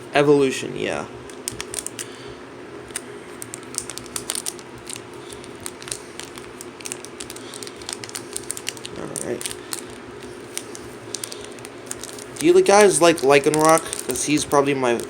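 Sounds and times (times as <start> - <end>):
steady low hum: 0.0 - 15.0
cards and packaging handled: 1.3 - 2.2, 2.9 - 15.0.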